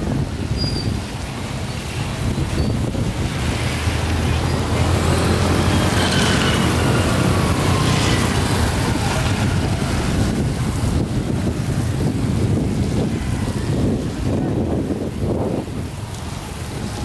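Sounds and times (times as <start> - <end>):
road traffic: 0.0 - 17.0
wind rumble on microphone: 0.0 - 17.0.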